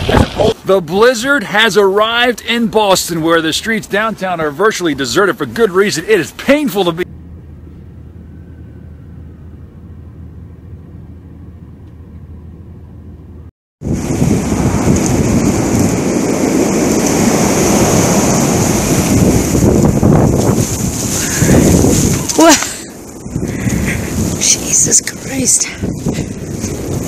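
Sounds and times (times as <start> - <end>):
blizzard wind gusts: 0.0 - 27.0.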